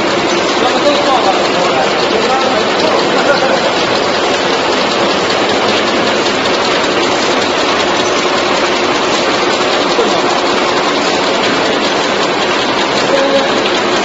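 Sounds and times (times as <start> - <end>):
machine mechanical rattle: 0.0 - 14.0.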